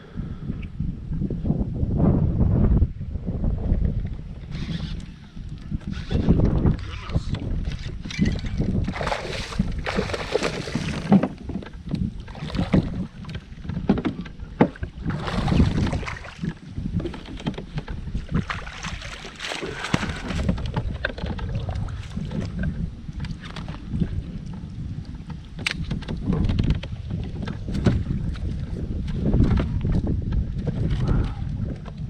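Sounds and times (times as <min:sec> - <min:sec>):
wind gusting on microphone: 0:00.0 - 0:32.0.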